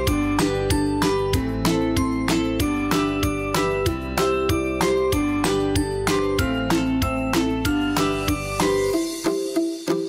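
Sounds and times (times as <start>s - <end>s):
upbeat theme music: 0.0s - 10.0s.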